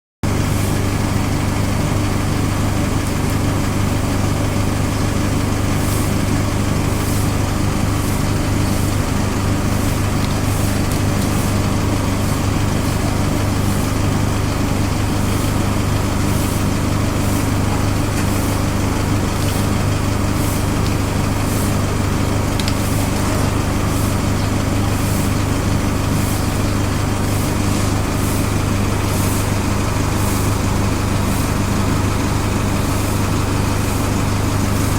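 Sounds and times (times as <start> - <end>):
low mechanical hum: 0.2 - 34.9.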